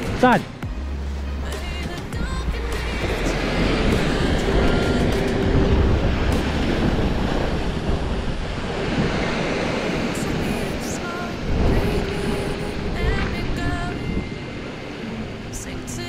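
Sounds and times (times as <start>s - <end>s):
wind buffeting microphone: 2.0s - 15.6s
sea surf washing over rocks: 2.1s - 16.0s.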